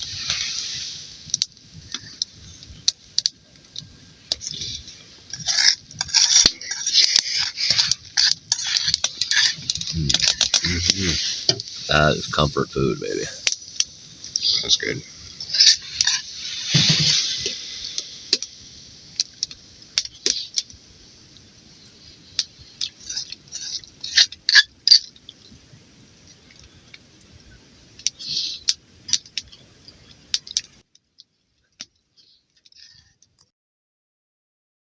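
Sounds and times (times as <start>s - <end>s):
faint hiss: 0.0s - 33.2s.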